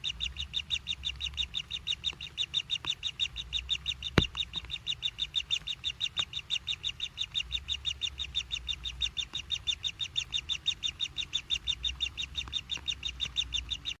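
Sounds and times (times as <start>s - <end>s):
nestling high chirps: 0.0s - 14.0s.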